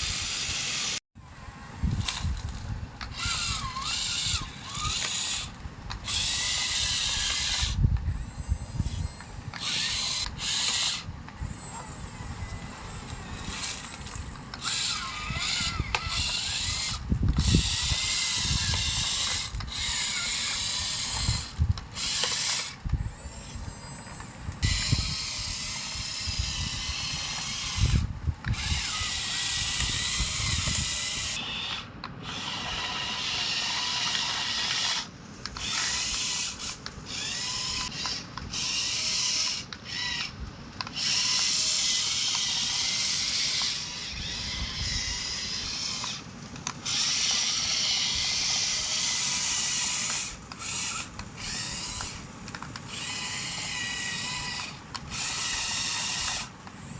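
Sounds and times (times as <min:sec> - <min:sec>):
toy excavator motors whirring: 0:00.0 - 0:56.9.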